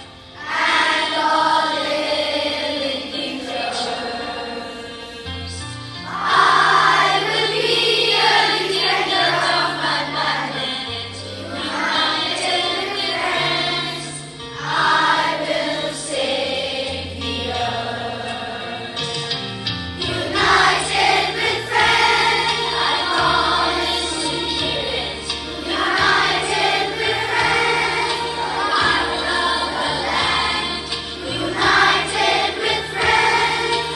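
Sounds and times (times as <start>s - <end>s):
children's choir singing: 0.0s - 19.4s, 20.0s - 33.9s
instrumental accompaniment: 0.0s - 33.9s.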